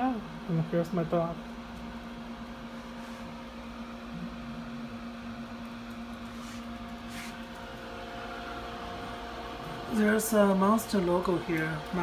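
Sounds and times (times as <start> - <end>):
fridge refrigeration unit humming: 0.0 - 12.0.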